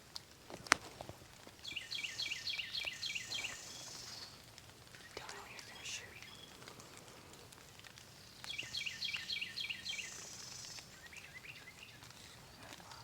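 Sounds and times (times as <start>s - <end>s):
quiet rural background noise: 0.0s - 13.0s
songbird chirping: 1.6s - 13.0s.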